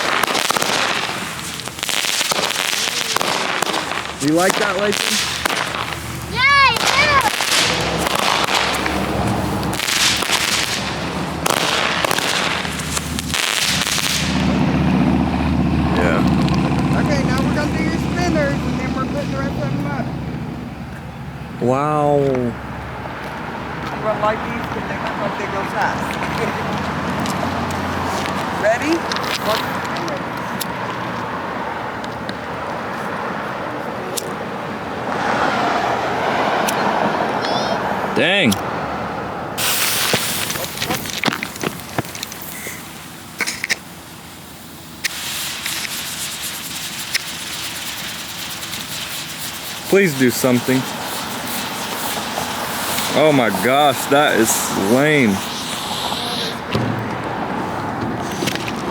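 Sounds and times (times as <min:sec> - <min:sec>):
firework hissing and crackling: 0:00.0 - 0:20.8, 0:23.4 - 0:38.7, 0:39.5 - 0:58.9.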